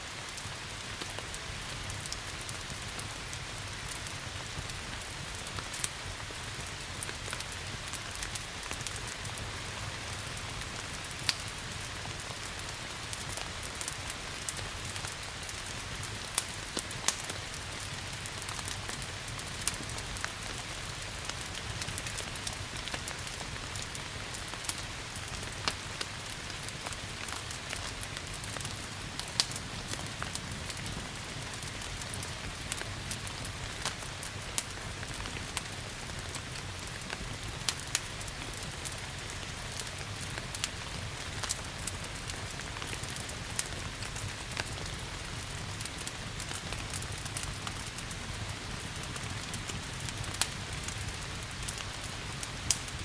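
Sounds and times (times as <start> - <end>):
rain hiss: 0.0 - 53.0
wood fire crackling: 0.0 - 53.0.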